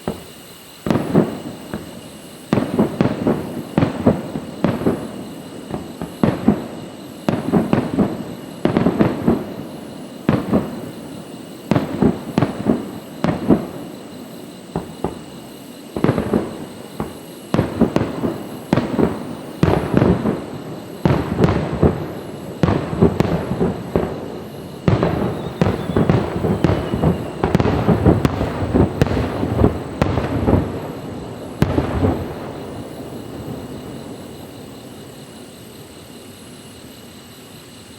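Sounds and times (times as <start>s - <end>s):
fireworks shells bursting: 0.0s - 37.0s.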